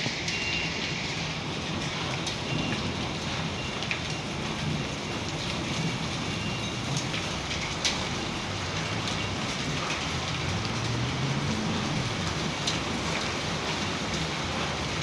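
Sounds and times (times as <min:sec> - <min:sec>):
heavy rain pouring: 0:00.0 - 0:15.0
raindrops tapping hard surface: 0:00.0 - 0:15.0.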